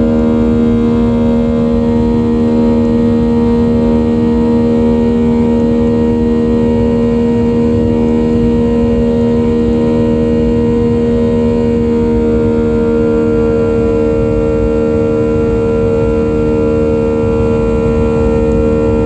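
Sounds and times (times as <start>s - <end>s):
jet engines droning in cabin: 0.0s - 19.0s.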